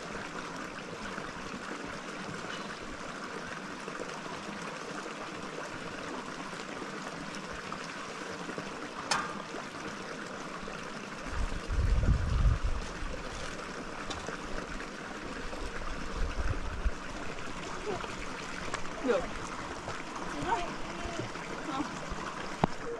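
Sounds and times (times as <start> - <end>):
stream water rushing: 0.0 - 22.9.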